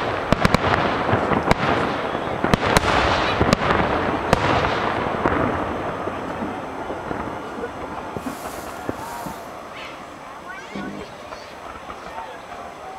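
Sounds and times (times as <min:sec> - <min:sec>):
fireworks bangs: 0:00.0 - 0:12.9
fireworks crackling: 0:00.0 - 0:12.9.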